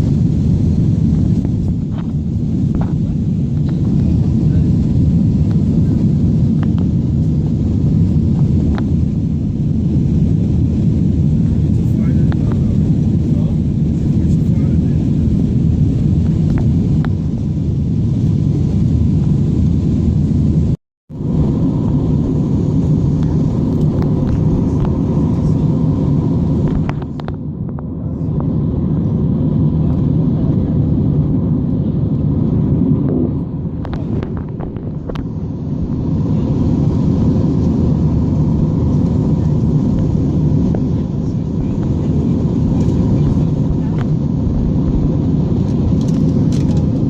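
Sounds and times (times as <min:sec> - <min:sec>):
low rumble of jet engines: 0:00.0 - 0:47.0.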